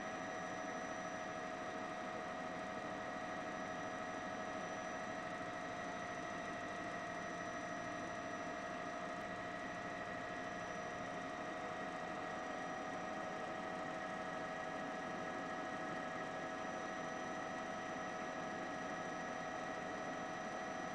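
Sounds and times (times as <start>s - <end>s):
helicopter engine drone: 0.0s - 20.9s.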